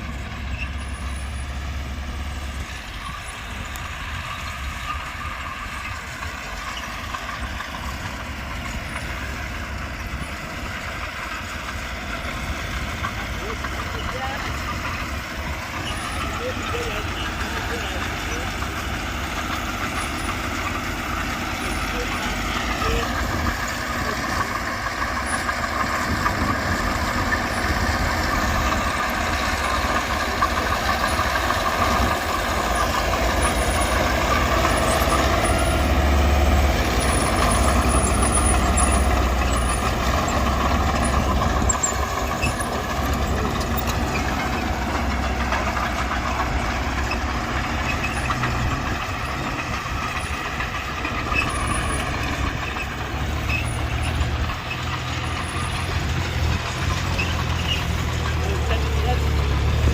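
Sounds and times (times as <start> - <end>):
diesel machinery engines under load: 0.0 - 59.9.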